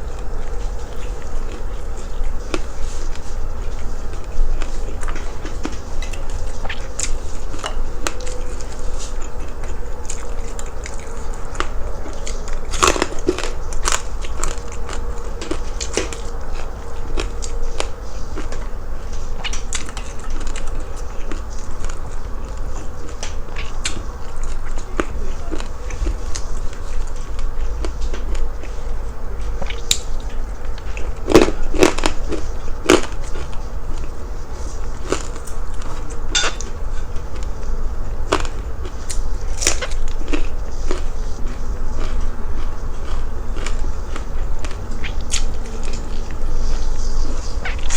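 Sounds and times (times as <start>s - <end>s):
crunchy chewing: 0.0s - 47.9s
steady low hum: 0.0s - 47.9s.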